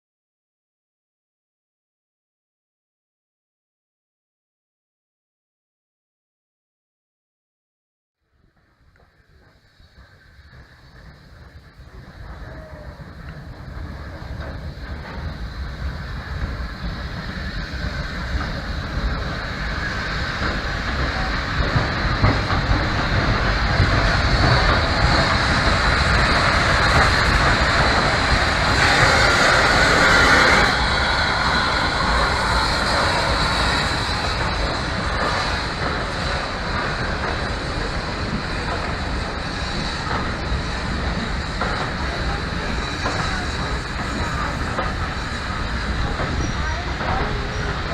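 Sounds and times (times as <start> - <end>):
steam locomotive running gear: 8.2 - 47.9.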